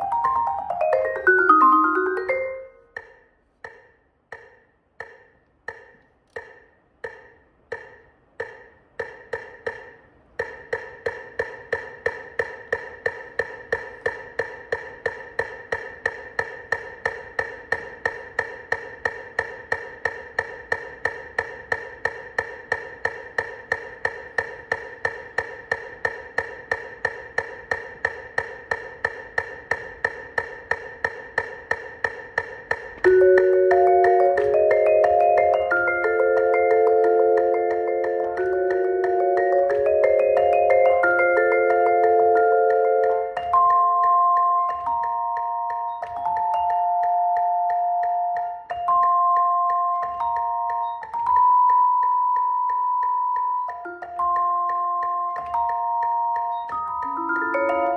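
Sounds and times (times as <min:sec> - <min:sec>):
metronome clicking: 0:00.0 - 0:57.9.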